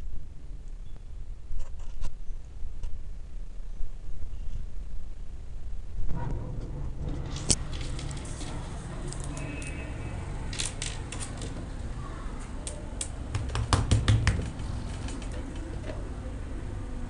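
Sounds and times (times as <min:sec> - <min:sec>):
steady low hum: 0:02.4 - 0:17.0.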